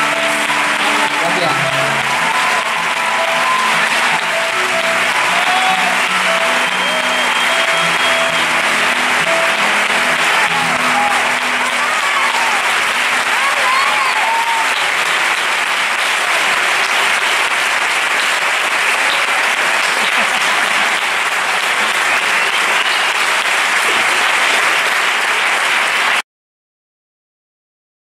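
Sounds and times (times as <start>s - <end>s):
audience applauding: 0.0s - 26.2s.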